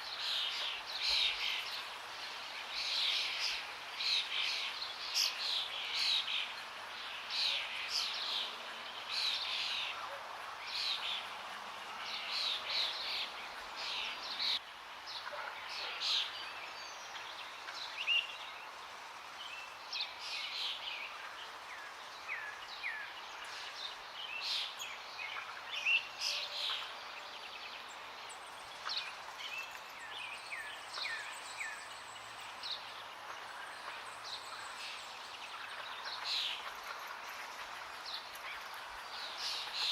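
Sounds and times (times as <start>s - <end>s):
birds chirping and trilling: 0.0s - 39.9s
running water: 0.0s - 39.9s.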